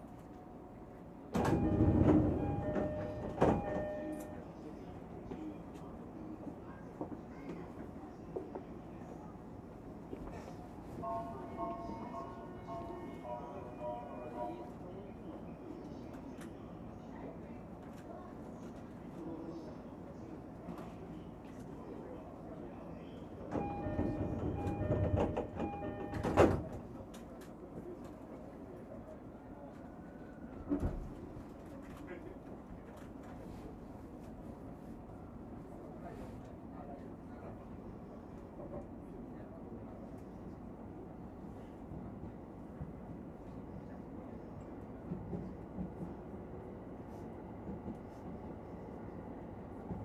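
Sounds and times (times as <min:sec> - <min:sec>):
train rumble: 0:00.9 - 0:22.2, 0:23.4 - 0:28.8, 0:29.5 - 0:50.0.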